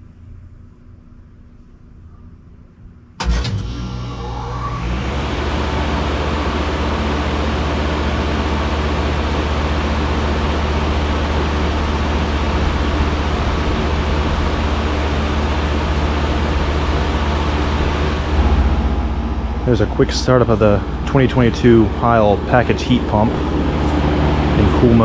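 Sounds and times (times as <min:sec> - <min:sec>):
low compressor hum: 0:00.0 - 0:25.0
condenser fan air rush: 0:02.1 - 0:25.0.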